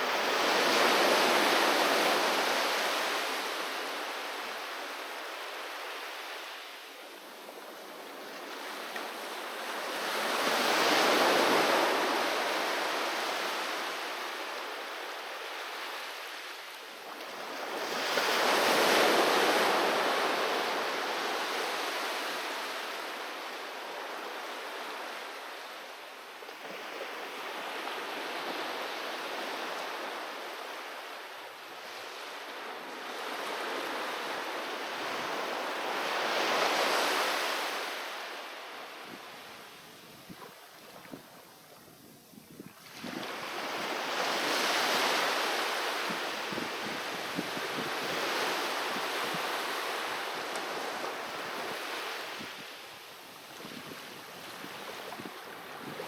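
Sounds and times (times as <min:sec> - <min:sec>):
sea waves breaking on beach: 0:00.0 - 0:25.9, 0:26.5 - 0:41.4, 0:42.7 - 0:56.0
surf hiss: 0:00.0 - 0:56.0.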